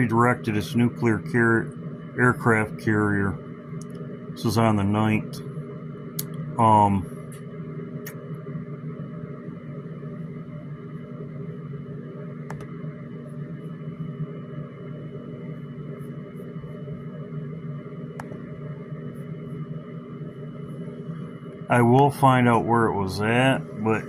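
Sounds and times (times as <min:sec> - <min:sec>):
droning hum: 0:00.0 - 0:24.0.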